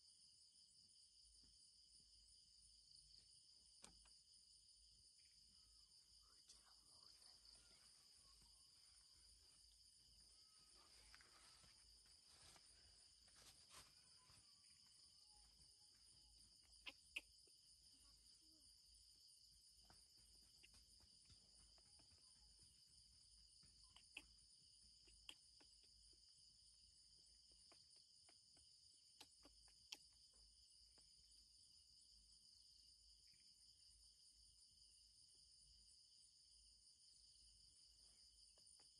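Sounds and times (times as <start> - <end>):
night insects chirping: 0.0 - 38.9.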